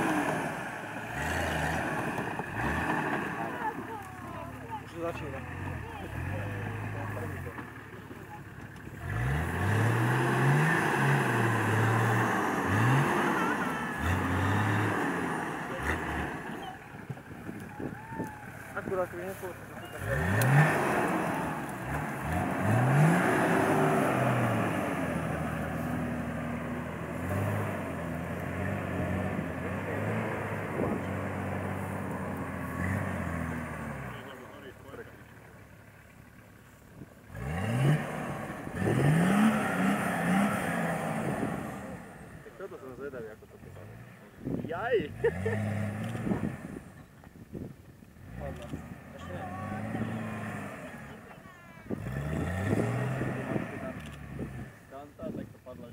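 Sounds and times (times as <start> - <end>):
engine revving under load: 0.0 - 36.1, 37.0 - 55.9.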